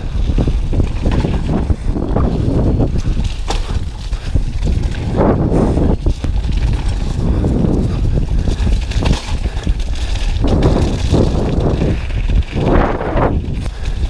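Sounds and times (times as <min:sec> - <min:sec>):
bike clattering over bumps: 0:00.0 - 0:14.0
tyres on loose dirt: 0:00.0 - 0:14.0
wind buffeting microphone: 0:00.0 - 0:14.0.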